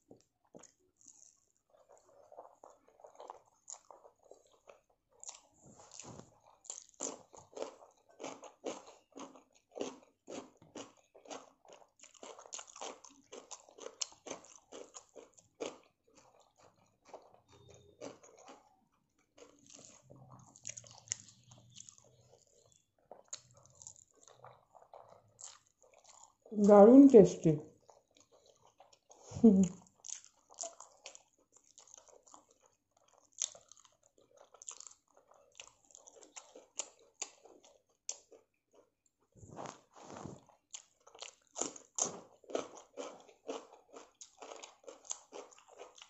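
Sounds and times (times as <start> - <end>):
person chewing with mouth smacks: 0.0 - 26.5, 27.7 - 46.0.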